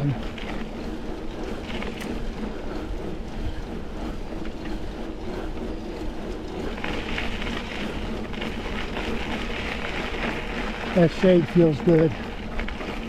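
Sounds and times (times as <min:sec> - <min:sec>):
bike tyres rolling on dirt: 0:00.0 - 0:13.0.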